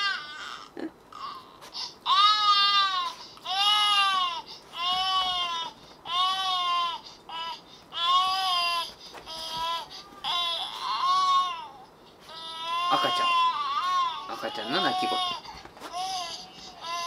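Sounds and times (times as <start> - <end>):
baby crying through phone speaker: 0.0 - 17.0.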